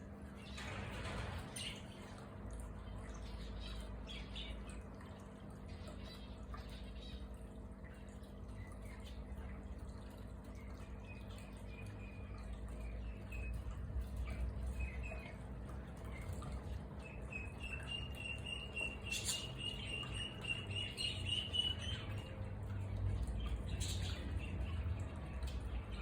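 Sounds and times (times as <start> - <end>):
small birds chirping: 1.5 - 26.0.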